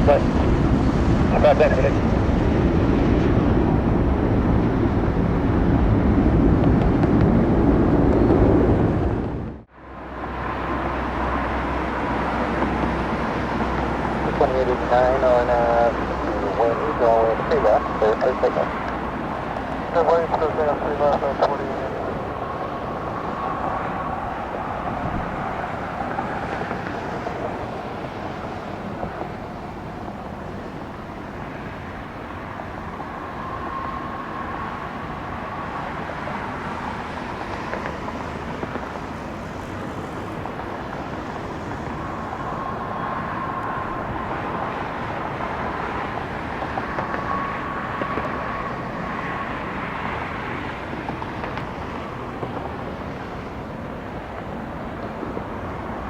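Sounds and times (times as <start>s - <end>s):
faint engine whine: 0.0s - 56.0s
jet engines roaring: 0.0s - 56.0s.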